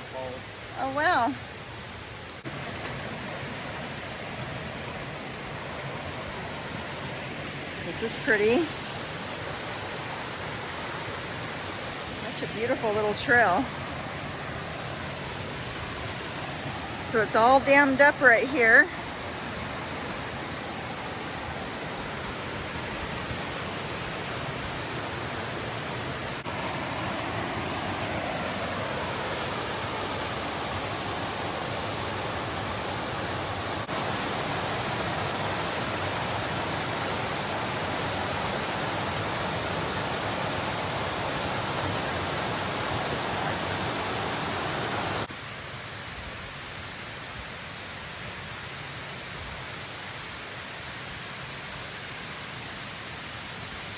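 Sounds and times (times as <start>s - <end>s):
creek water cascading: 0.0s - 53.9s.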